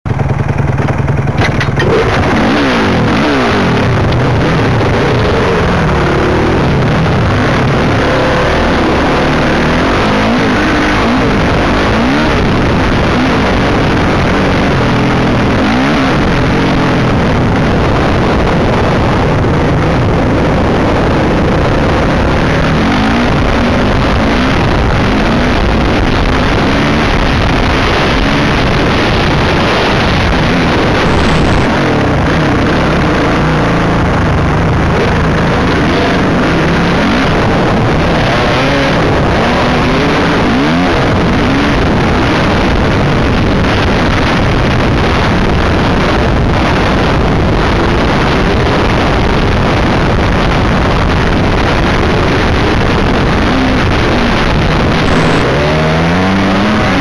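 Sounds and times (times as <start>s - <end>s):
dirt bike engine revving: 0.1s - 57.0s.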